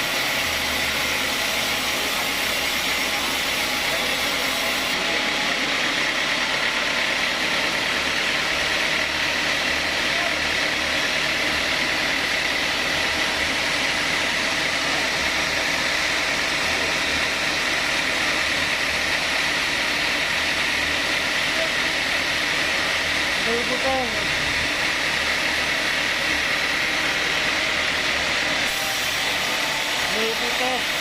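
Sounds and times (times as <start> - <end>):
high machine whine: 0.0 - 31.0
sawmill machinery drone: 0.0 - 31.0.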